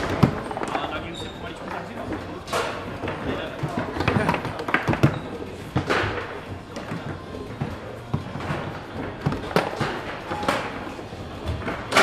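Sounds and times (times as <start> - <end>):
foosball ball and rods clacking: 0.0 - 0.9, 1.6 - 12.0.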